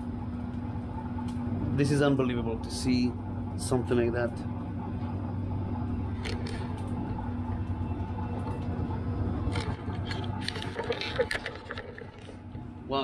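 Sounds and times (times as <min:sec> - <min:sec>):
forge fire humming: 0:00.0 - 0:13.0.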